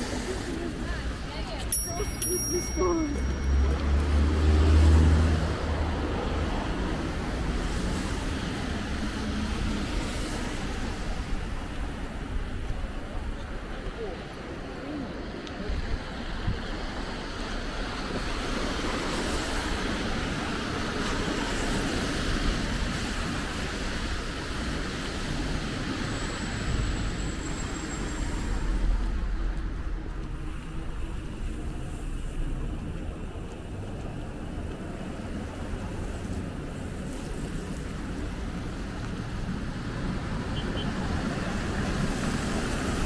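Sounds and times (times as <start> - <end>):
city traffic passing: 0.0 - 43.0.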